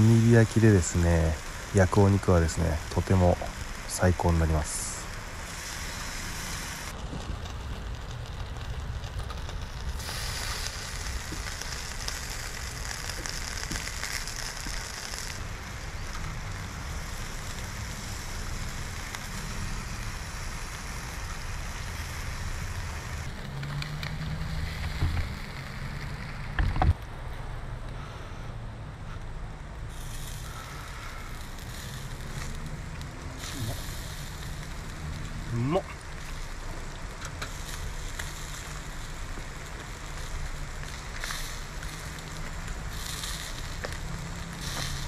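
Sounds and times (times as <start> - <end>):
meat sizzling on a grill: 0.0 - 26.8, 29.8 - 45.0
low wind rumble: 0.0 - 45.0.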